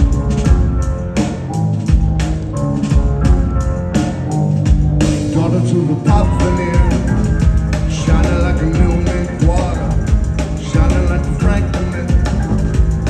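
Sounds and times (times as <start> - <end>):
drum kit beating: 0.0 - 13.0
rock band playing live: 0.0 - 13.0.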